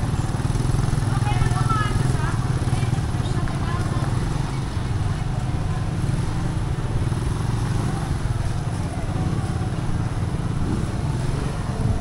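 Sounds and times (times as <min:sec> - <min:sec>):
small motorcycle engine drone: 0:00.0 - 0:12.0.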